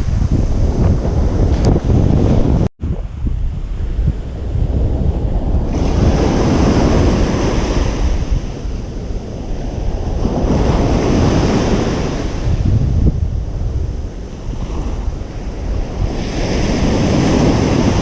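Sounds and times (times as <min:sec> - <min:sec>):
wind rumble on microphone: 0:00.0 - 0:18.0
ocean surf breaking: 0:03.6 - 0:18.0.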